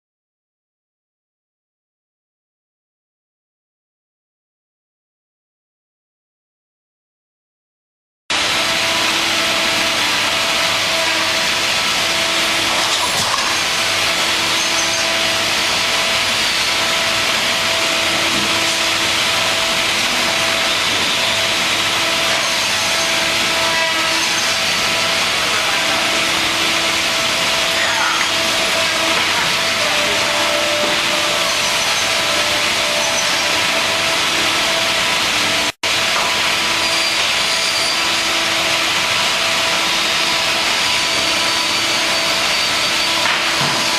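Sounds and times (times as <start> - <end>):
cnc router cutting: 8.3 - 43.9.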